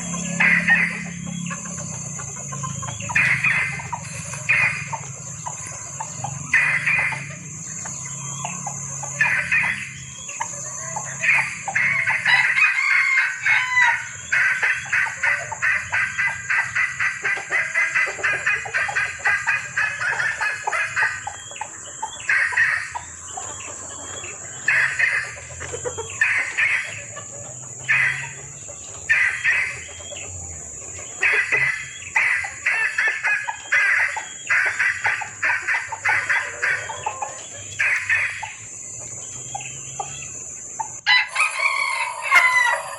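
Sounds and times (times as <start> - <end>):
hen clucking and calling: 0.0 - 42.9.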